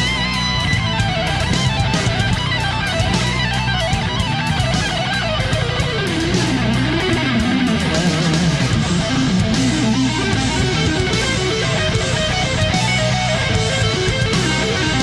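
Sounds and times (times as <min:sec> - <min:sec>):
bass notes: 0:00.0 - 0:15.0
electric guitar lead melody: 0:00.0 - 0:15.0
steady drum beat: 0:00.0 - 0:15.0.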